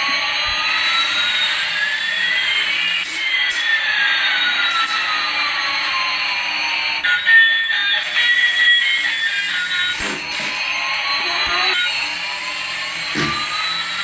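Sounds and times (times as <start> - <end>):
toy aircraft whooshing hiss: 0.2 - 6.9, 7.9 - 14.0.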